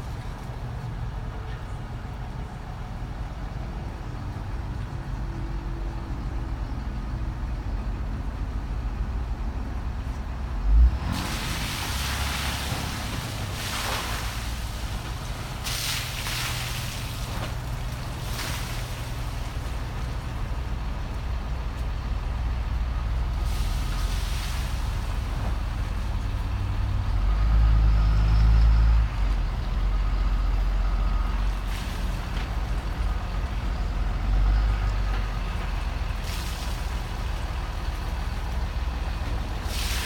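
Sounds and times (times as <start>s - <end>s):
diesel engine rumbling: 0.0s - 40.0s.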